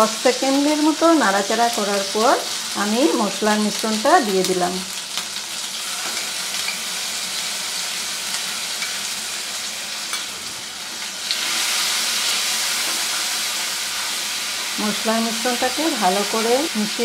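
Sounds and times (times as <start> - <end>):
spice paste sizzling in hot oil: 0.0 - 17.0.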